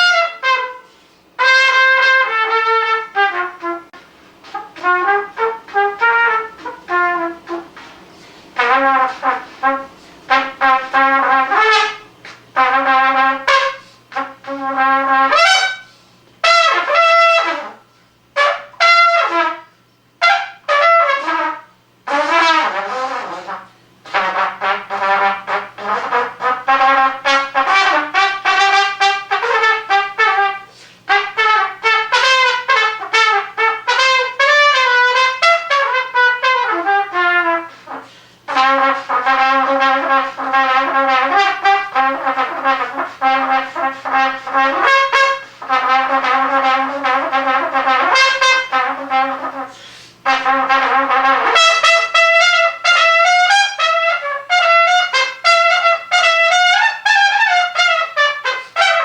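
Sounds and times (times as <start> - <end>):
trumpet solo: 0.0 - 59.0.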